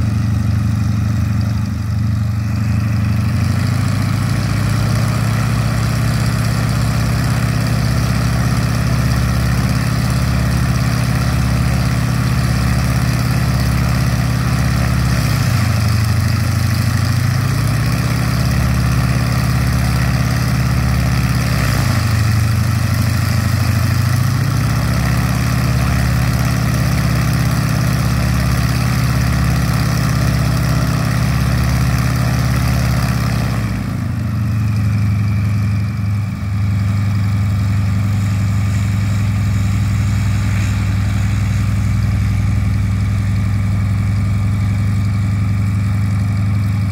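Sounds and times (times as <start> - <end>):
radial aircraft engine idling: 0.0 - 46.9.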